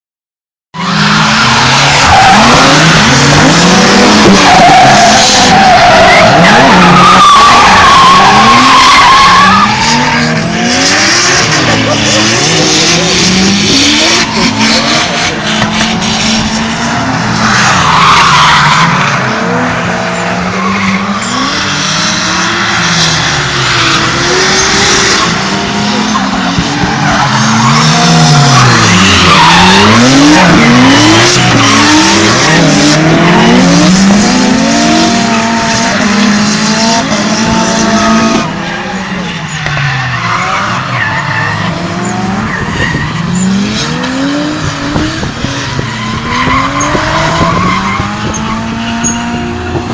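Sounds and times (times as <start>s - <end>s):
car engine revving hard: 0.8s - 49.9s.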